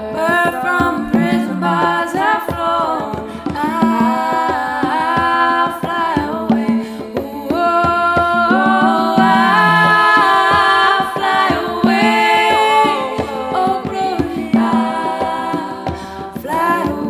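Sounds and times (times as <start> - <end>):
music with harmony singing: 0.0 - 17.0.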